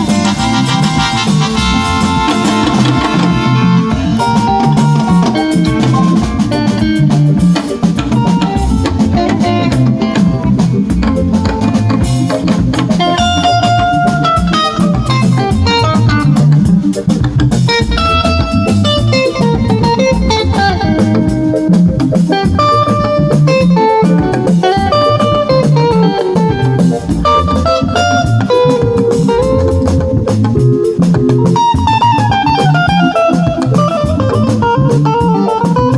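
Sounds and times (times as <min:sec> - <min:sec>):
bass guitar: 0:00.0 - 0:35.9
drum kit: 0:00.0 - 0:35.9
electric guitar melodic lines: 0:00.0 - 0:35.9.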